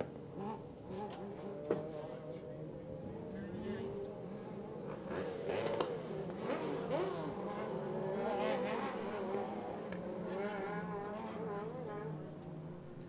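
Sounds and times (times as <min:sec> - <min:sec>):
buggy engines buzzing and revving: 0:00.0 - 0:13.0.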